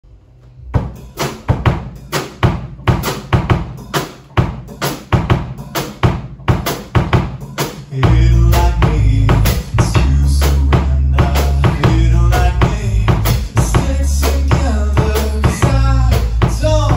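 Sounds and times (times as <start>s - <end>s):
bass guitar: 0.0s - 16.9s
rock drum beat: 0.6s - 16.9s.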